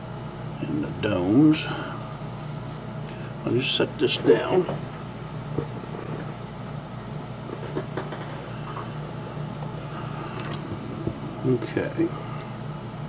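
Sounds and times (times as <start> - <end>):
low air conditioner hum: 0.0 - 13.0.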